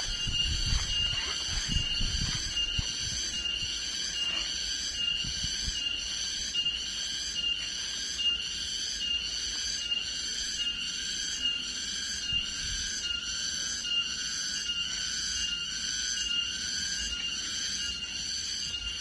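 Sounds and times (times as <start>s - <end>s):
insects buzzing chorus: 0.0s - 19.0s.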